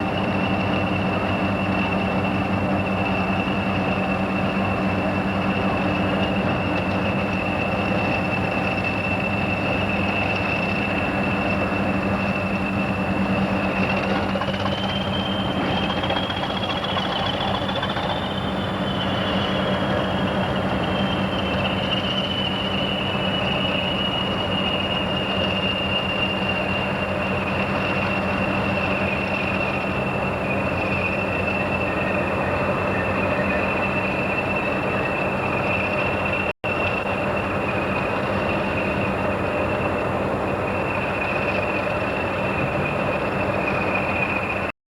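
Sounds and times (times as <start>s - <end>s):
diesel locomotive engines running: 0.0s - 44.8s
high whistle: 7.0s - 13.8s, 14.6s - 44.7s.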